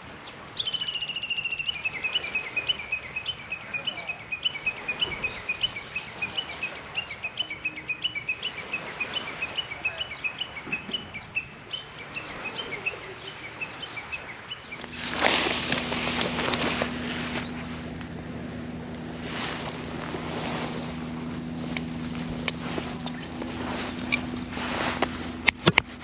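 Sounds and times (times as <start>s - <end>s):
songbird chirping and trilling: 0.2s - 26.0s.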